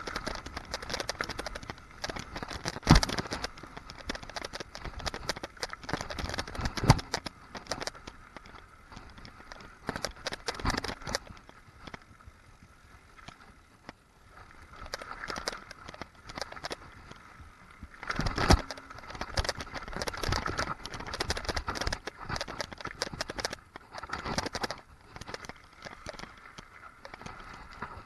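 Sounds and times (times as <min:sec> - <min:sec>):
mountain bike rattling on gravel: 0:00.0 - 0:12.1, 0:14.7 - 0:17.2, 0:17.9 - 0:28.0.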